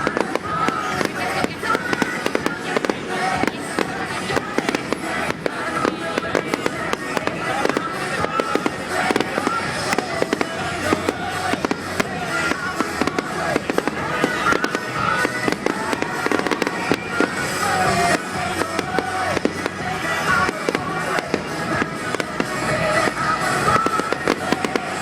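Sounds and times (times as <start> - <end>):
fireworks bangs and crackles: 0.0 - 25.0
music playing: 0.0 - 25.0.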